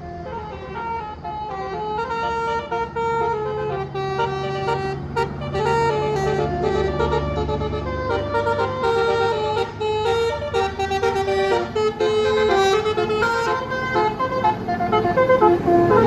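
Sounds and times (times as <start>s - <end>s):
bus engine rumble: 0.0s - 16.0s
bus melody horn: 0.0s - 16.0s.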